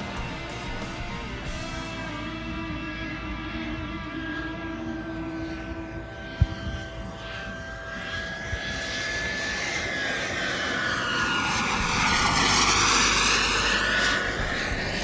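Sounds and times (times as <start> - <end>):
jet turbine whine flying past: 0.0 - 15.0.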